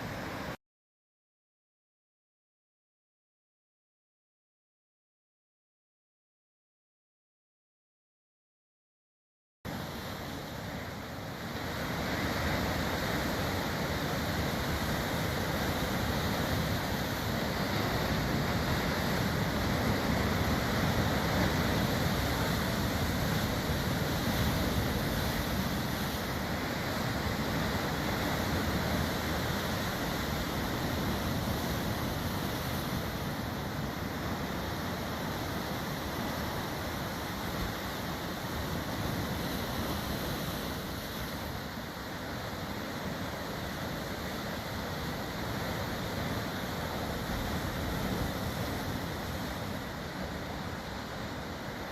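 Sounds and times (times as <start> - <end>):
sea surf washing onto beach: 9.7 - 51.9.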